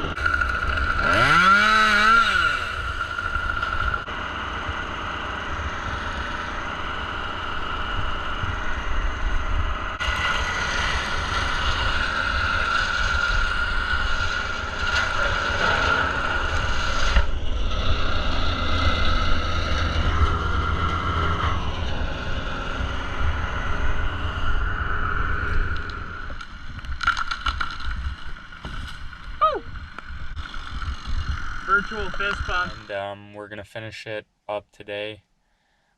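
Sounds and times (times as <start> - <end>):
machinery rumble and whine: 0.0 - 33.2.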